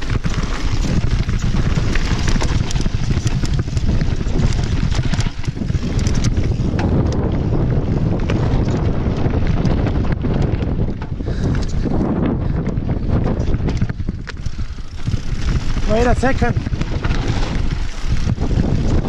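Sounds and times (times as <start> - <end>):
bike rattling over rough ground: 0.0 - 19.0
wind buffeting microphone: 0.0 - 19.0.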